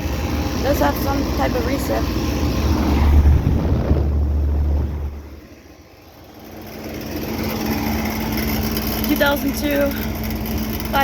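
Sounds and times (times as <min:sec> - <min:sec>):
condenser fan airflow rumble: 0:00.0 - 0:11.0.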